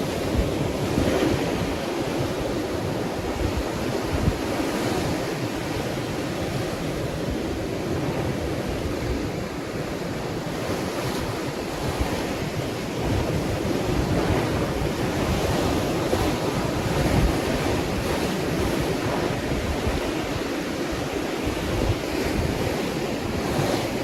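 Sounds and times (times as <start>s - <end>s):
ocean waves washing in: 0.0s - 24.0s
wind buffeting microphone: 0.0s - 24.0s.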